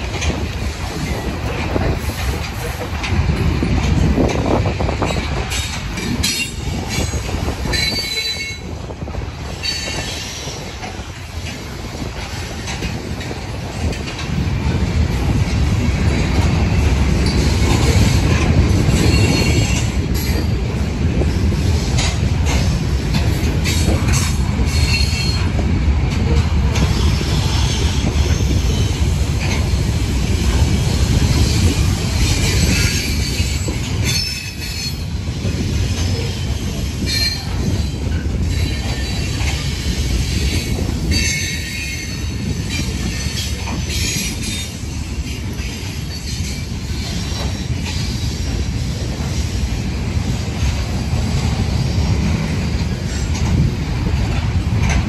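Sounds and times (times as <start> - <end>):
train wheels rumbling and clattering: 0.0 - 55.0.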